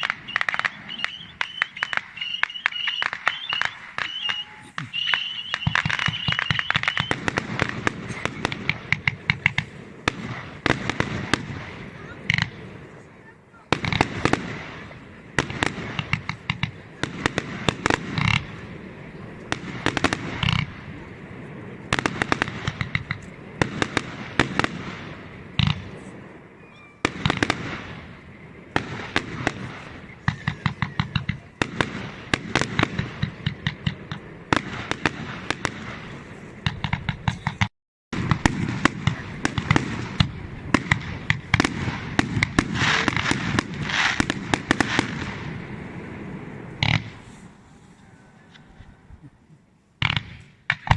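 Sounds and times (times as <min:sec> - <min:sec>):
fireworks bangs: 0:00.0 - 0:49.4, 0:50.0 - 0:50.9
fireworks crackling and popping: 0:00.0 - 0:50.9.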